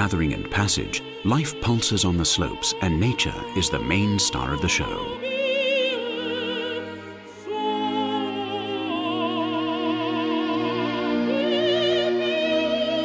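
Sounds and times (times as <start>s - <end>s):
operatic singing with vibrato: 0.0s - 13.0s
orchestral backing: 0.0s - 13.0s.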